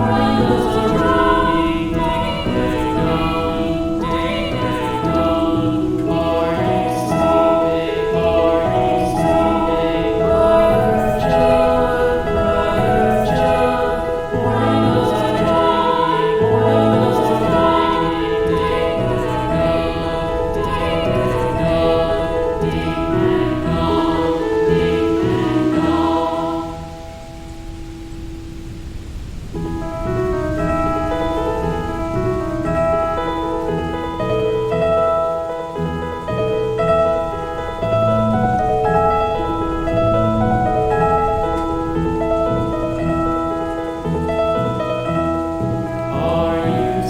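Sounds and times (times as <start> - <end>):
choir singing held chords: 0.0 - 47.0.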